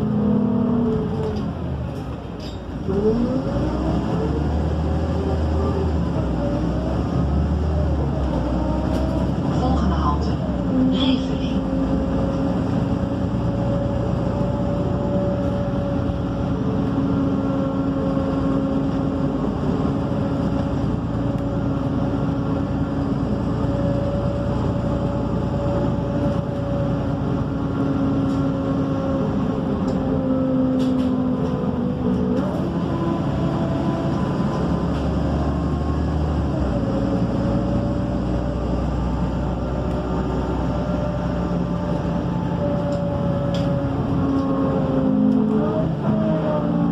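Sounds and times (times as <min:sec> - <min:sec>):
bus engine hum and whine: 0:00.0 - 0:46.9.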